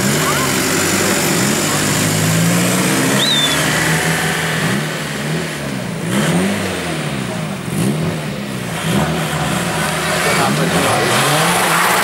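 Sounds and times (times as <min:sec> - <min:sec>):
car engine revving while accelerating: 0:00.0 - 0:12.0.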